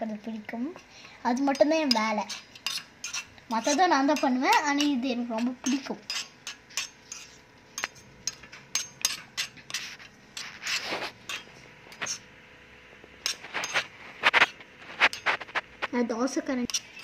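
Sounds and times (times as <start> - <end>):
metal spoon scraping metal pan: 1.0 - 12.3, 13.2 - 15.9, 16.6 - 17.0.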